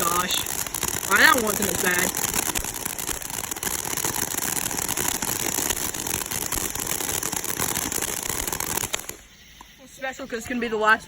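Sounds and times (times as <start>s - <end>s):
firework fountain hissing crackle: 0.0s - 11.0s.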